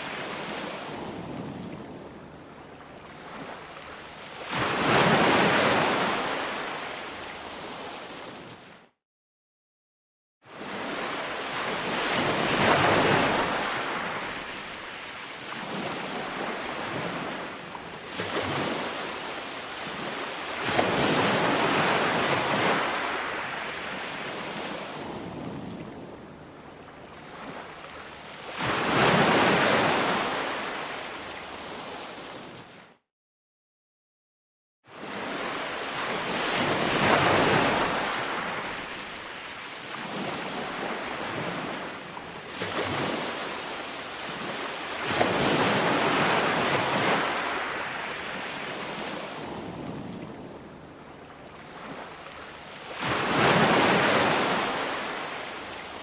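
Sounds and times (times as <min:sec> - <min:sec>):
waves breaking on shore: 0:00.0 - 0:08.9, 0:10.5 - 0:33.0, 0:34.9 - 0:56.0.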